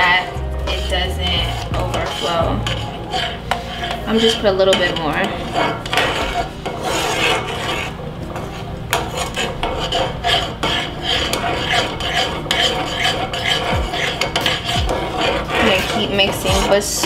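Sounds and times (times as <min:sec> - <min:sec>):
metal spoon scraping a pot: 0:00.0 - 0:17.0.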